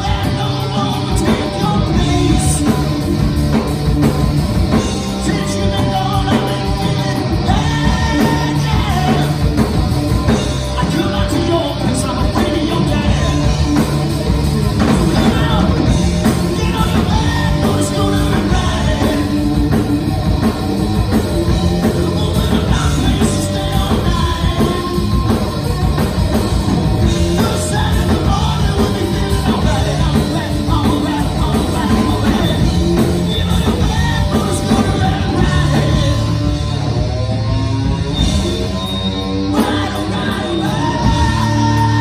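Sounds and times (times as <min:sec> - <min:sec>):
person singing lead vocal: 0:00.0 - 0:03.6, 0:04.7 - 0:20.5, 0:21.1 - 0:36.8, 0:38.8 - 0:42.0
rock band playing: 0:00.0 - 0:42.0.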